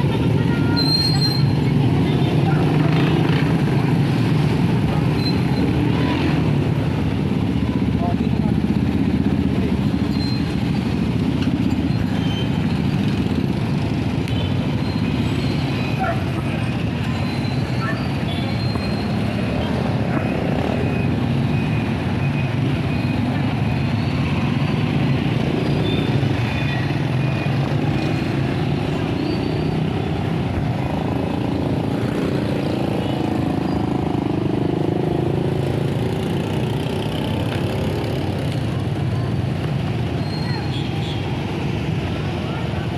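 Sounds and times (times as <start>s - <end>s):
street traffic: 0.0s - 42.9s.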